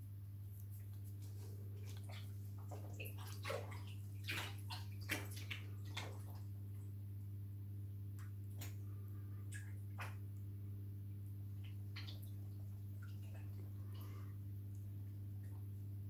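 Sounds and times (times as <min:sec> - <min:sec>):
low hum of tank equipment: 0:00.0 - 0:16.0
aquarium water splashing: 0:00.5 - 0:16.0.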